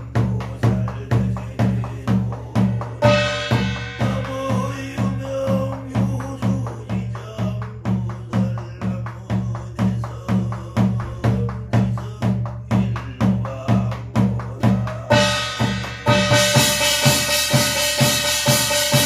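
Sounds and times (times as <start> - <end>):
barrel drum beaten with stick: 0.0 - 19.0.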